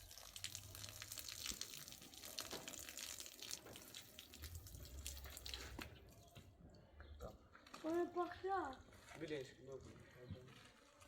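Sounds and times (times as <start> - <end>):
water drips: 0.0 - 8.9
water splashing and trickling: 0.0 - 10.1.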